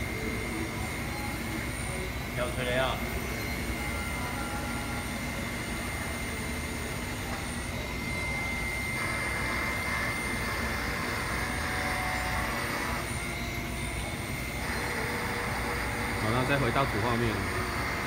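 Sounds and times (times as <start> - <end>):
machine whirring with high whine: 0.0 - 18.0.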